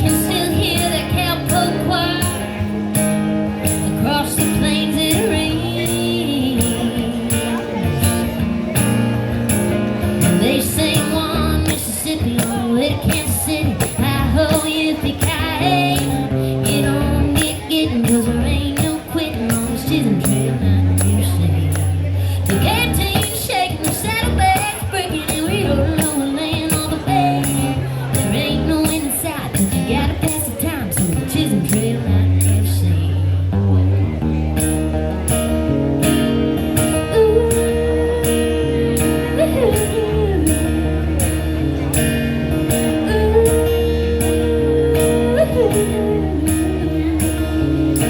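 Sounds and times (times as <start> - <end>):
bass line: 0.0 - 14.6, 15.2 - 23.3, 23.9 - 24.7, 25.4 - 30.4, 31.0 - 48.0
high rattling beat: 0.0 - 32.8, 34.6 - 48.0
live country band music: 0.0 - 48.0.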